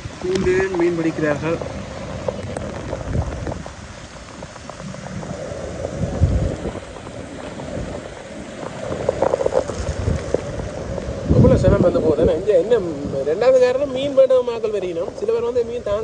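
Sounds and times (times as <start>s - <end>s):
water rushing: 0.0s - 16.0s
wind buffeting microphone: 0.0s - 16.0s.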